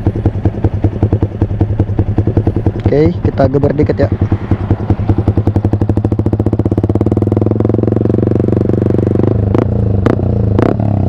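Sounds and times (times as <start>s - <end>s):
exhaust cracks: 0.0s - 11.0s
motorcycle engine revving: 0.0s - 11.0s.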